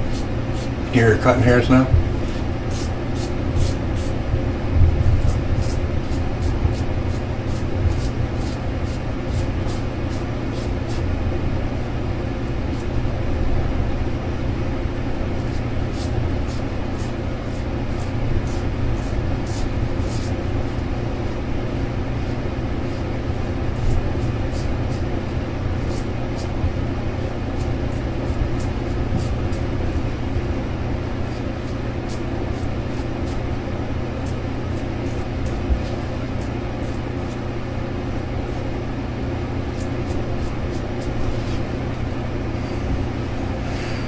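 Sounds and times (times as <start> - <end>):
razor scraping stubble: 0.0 - 4.3, 5.0 - 13.2, 15.3 - 44.0.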